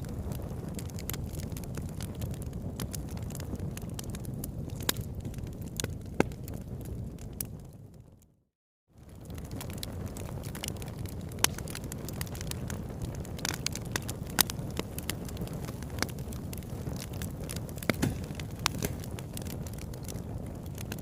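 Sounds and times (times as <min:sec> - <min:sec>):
burning wood crackling: 0:00.0 - 0:08.1, 0:09.0 - 0:21.0
campfire flames rumbling: 0:00.0 - 0:08.4, 0:09.0 - 0:21.0.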